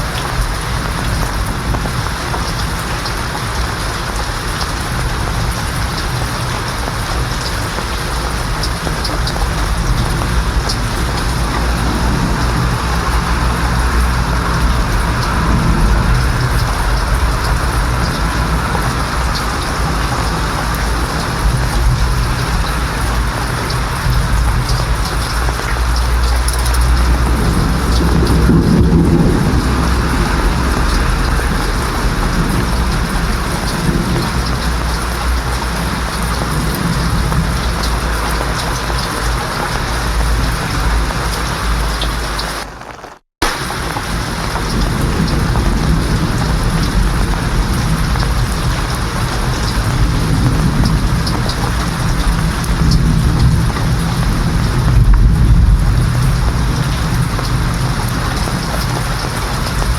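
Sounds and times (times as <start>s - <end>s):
rolling thunder: 0.0s - 42.7s, 43.4s - 59.9s
steady rainfall: 0.0s - 59.9s.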